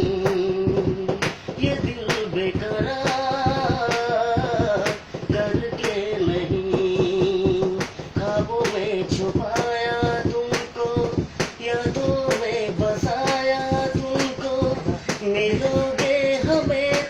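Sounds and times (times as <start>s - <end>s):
sharp steady beat: 0.0s - 17.0s.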